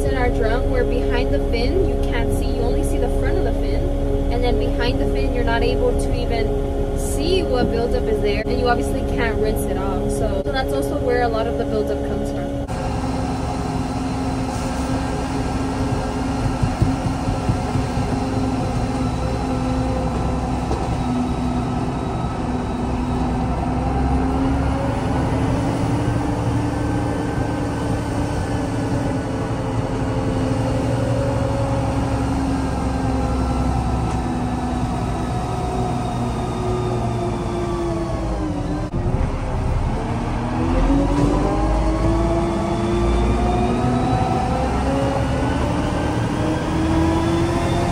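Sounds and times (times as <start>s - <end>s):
truck diesel engine running: 0.0s - 47.9s.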